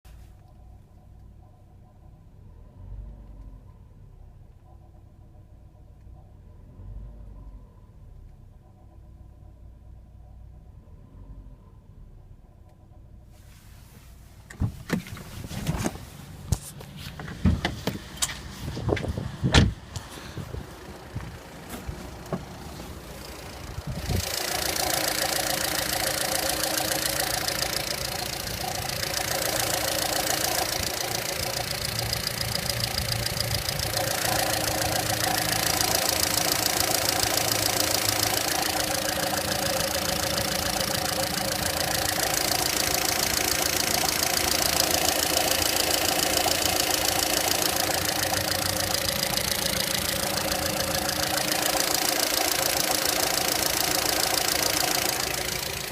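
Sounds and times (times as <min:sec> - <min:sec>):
car engine starting and idling: 0:00.1 - 0:55.9.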